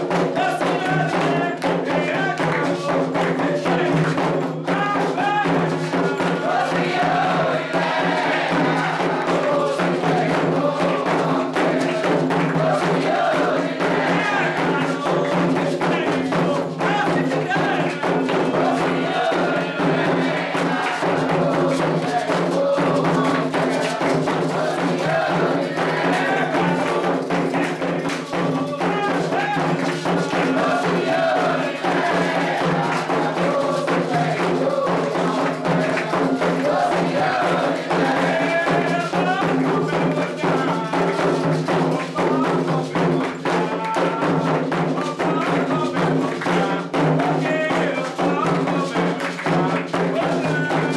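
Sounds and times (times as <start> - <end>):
hand drums and percussion: 0.0 - 50.9
voices singing a chant: 0.0 - 50.9.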